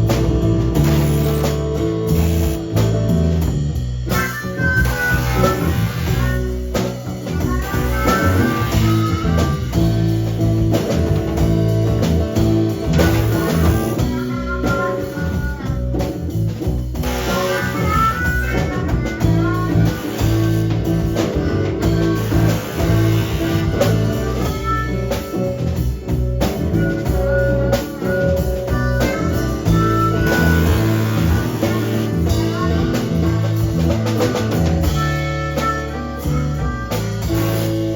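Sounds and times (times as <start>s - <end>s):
live blues band playing: 0.0s - 37.9s.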